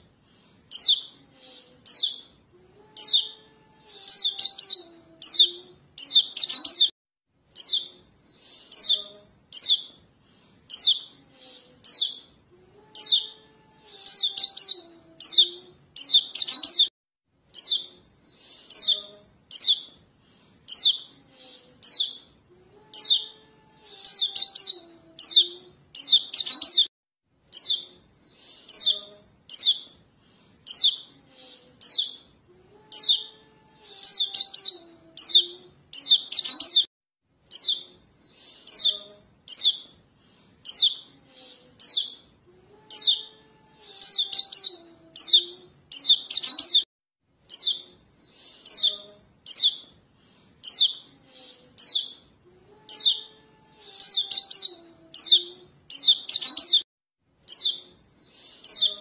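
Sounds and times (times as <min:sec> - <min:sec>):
young birds chirping: 0:00.7 - 0:02.3, 0:03.0 - 0:06.9, 0:07.6 - 0:10.0, 0:10.7 - 0:16.9, 0:17.6 - 0:20.0, 0:20.7 - 0:22.3, 0:23.0 - 0:26.9, 0:27.5 - 0:30.0, 0:30.6 - 0:32.3, 0:32.9 - 0:36.9, 0:37.5 - 0:39.9, 0:40.6 - 0:42.3, 0:42.9 - 0:46.9, 0:47.5 - 0:49.9, 0:50.6 - 0:52.3, 0:52.9 - 0:56.8, 0:57.4 - 0:59.0.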